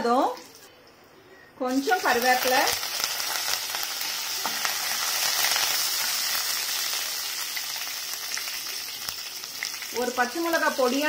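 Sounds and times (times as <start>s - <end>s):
leaves sizzling in hot oil: 1.7s - 11.0s.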